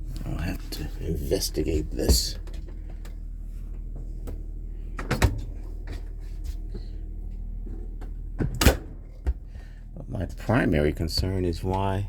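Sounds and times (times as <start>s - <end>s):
diesel generator humming: 0.0s - 12.0s
knocks and clicks of controls: 1.4s - 4.4s, 5.0s - 12.0s.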